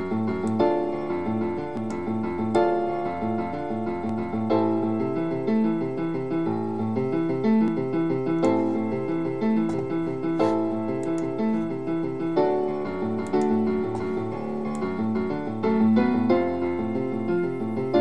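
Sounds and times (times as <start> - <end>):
background music with held chords: 0.0 - 18.0.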